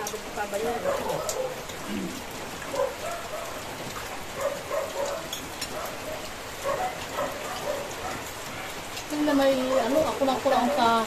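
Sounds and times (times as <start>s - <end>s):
rain on a metal roof: 0.0s - 11.0s.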